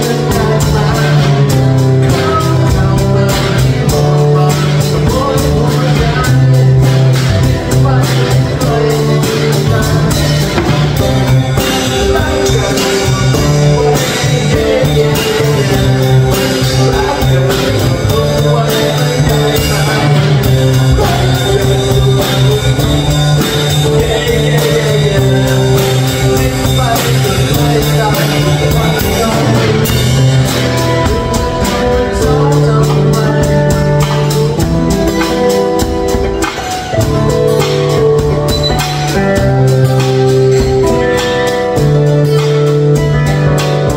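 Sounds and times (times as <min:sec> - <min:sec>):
acoustic guitars strummed: 0:00.0 - 0:43.9
drum kit: 0:00.0 - 0:43.9
man singing: 0:00.0 - 0:43.9.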